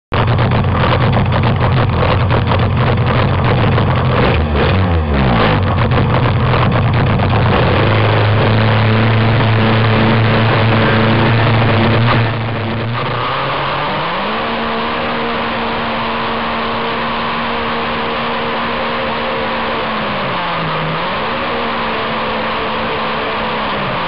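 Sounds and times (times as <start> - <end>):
two-stroke boat engine running: 0.1 - 24.0.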